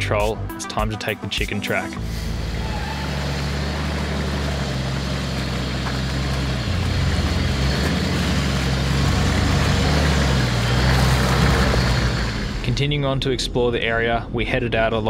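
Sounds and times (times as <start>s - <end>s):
vehicle engine running at low revs: 2.0s - 14.1s.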